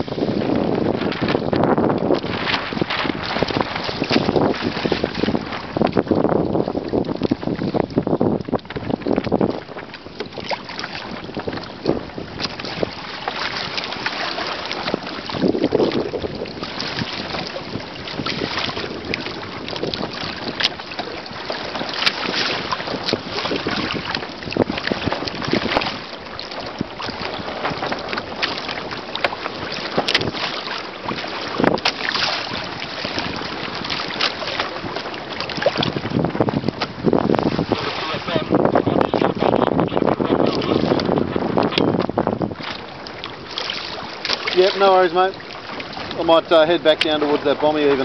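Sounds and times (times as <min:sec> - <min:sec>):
water slapping against hull: 0:00.0 - 0:48.0
water splashes: 0:00.0 - 0:48.0
wind buffeting microphone: 0:00.0 - 0:48.0.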